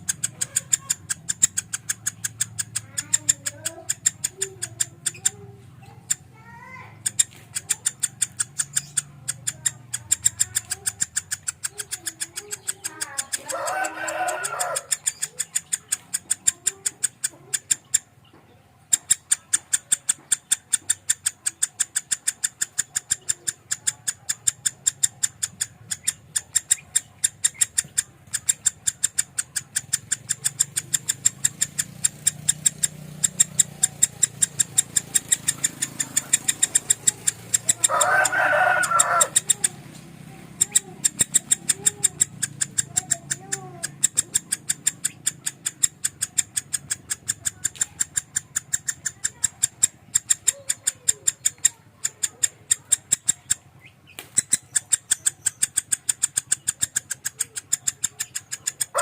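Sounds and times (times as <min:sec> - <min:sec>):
lovebird chirping rapidly: 0:00.0 - 0:37.9, 0:38.7 - 0:59.0.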